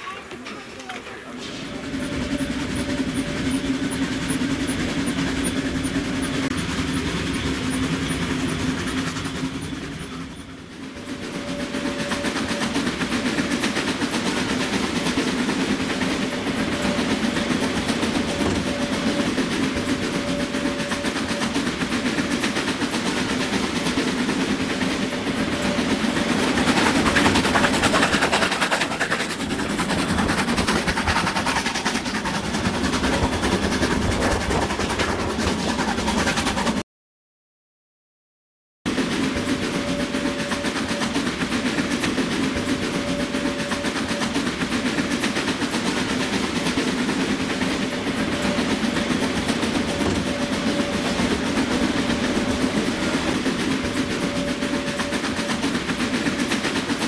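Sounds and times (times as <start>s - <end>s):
train wheels rumbling on rails: 0.0s - 36.8s, 38.9s - 57.0s.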